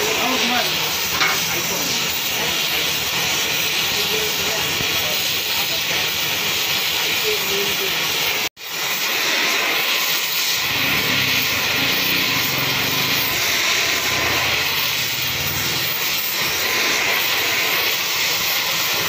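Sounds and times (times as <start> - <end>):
welding torch hissing: 0.0 - 19.0.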